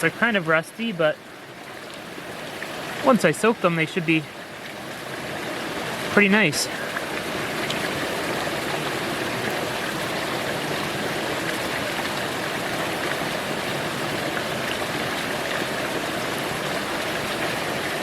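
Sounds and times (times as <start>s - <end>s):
creek water rushing over rocks: 0.0s - 18.0s.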